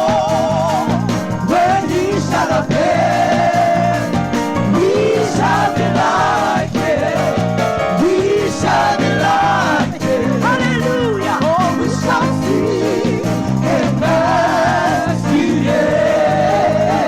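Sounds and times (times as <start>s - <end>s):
person singing gospel: 0.0s - 17.0s
sustained keyboard accompaniment: 0.0s - 17.0s.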